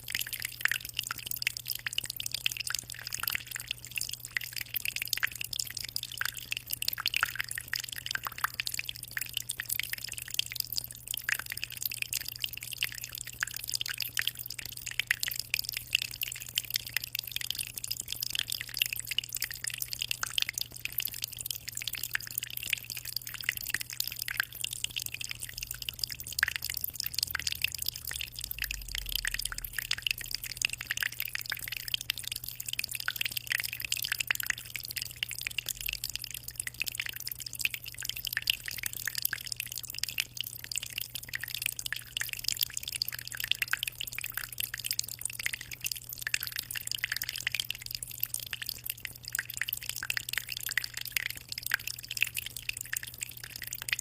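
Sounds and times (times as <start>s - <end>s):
aquarium water trickling and splashing: 0.0s - 54.0s.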